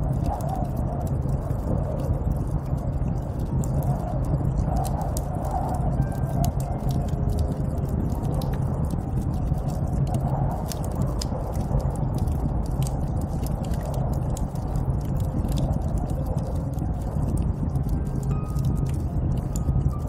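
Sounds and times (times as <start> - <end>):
low rush of wind: 0.0 - 20.0
small crackling clicks: 0.0 - 20.0.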